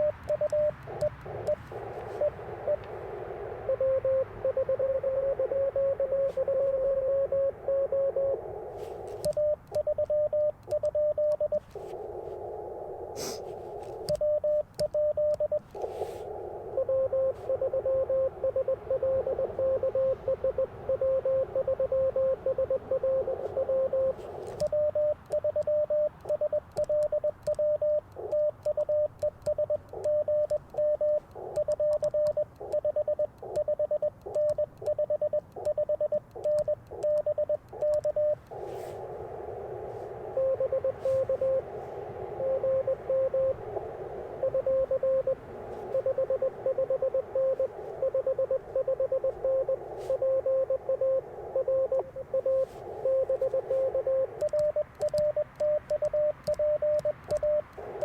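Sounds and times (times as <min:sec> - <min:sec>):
radio band hiss: 0:00.0 - 0:09.3, 0:11.2 - 0:24.7, 0:28.0 - 0:32.8, 0:35.5 - 0:55.6, 0:56.3 - 0:58.0
morse code sidetone beeps: 0:00.0 - 0:58.0
weaker lower-pitched morse code: 0:00.0 - 0:58.0.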